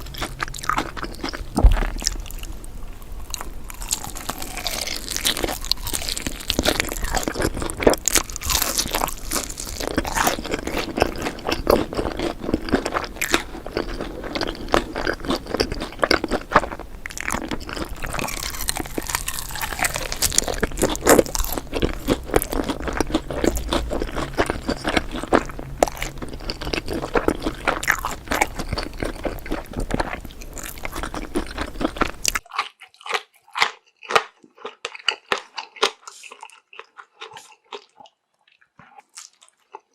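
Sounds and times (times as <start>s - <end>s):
low background hum: 0.0s - 32.4s
noodles being chewed: 0.0s - 39.9s.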